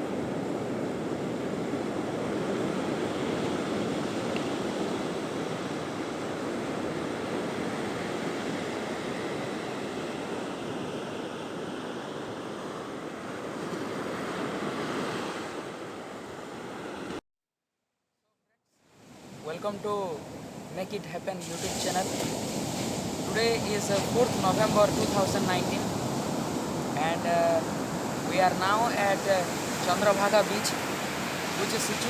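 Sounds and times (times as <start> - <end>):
sea surf breaking on a beach: 0.0 - 17.2, 18.9 - 32.0.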